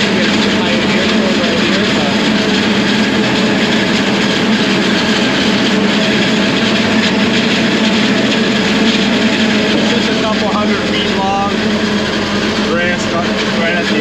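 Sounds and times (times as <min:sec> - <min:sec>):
forage harvester running: 0:00.0 - 0:14.0.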